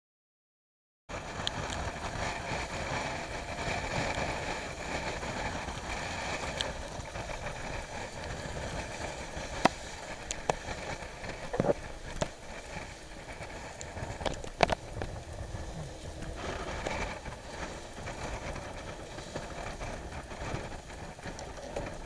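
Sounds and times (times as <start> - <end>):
rush of wind and water: 1.1 - 22.0
wind buffeting microphone: 1.1 - 22.0.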